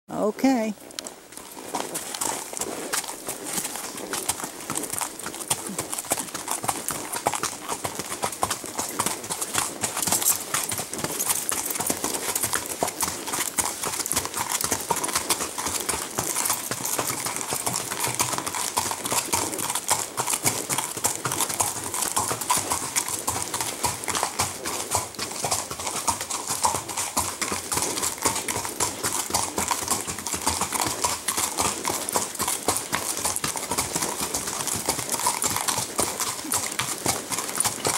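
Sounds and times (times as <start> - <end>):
hooves clip-clopping on gravel: 0.5 - 37.9.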